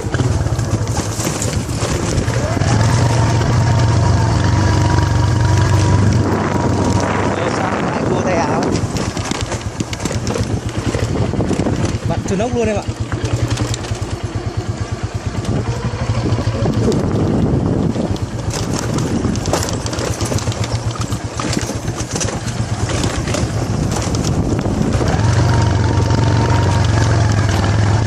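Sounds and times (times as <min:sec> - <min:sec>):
bike rattling over bumps: 0:00.0 - 0:28.0
motorcycle engine running: 0:00.0 - 0:28.0.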